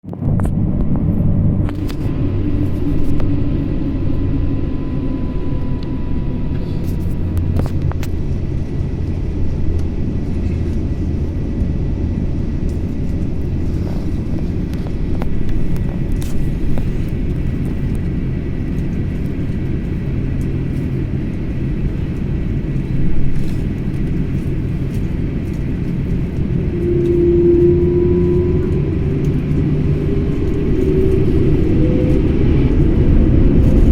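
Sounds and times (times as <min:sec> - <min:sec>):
airplane cabin engine rumble: 0:00.0 - 0:33.9
steady hum: 0:00.0 - 0:33.9.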